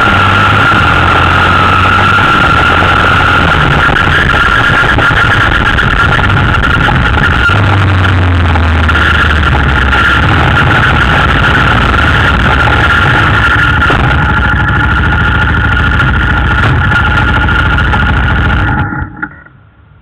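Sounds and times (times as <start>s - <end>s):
atv engine running: 0.0s - 19.1s.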